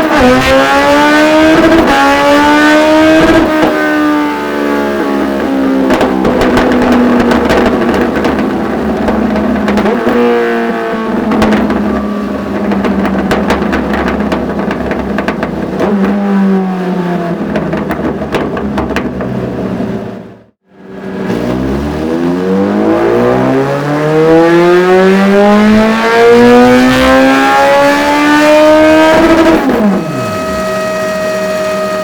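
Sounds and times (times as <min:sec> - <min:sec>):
motorcycle engine running loud: 0:00.0 - 0:20.0, 0:20.8 - 0:32.0
exhaust pops: 0:00.0 - 0:20.6, 0:25.6 - 0:32.0.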